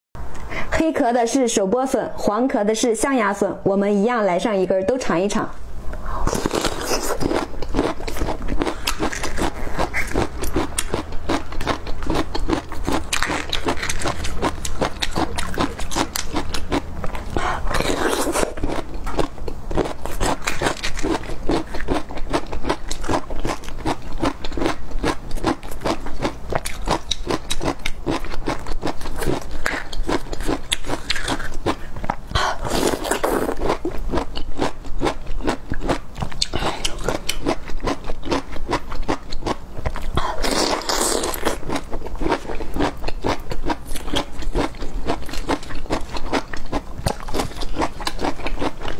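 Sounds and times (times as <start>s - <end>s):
chewing crisp bamboo shoots: 6.3s - 48.9s.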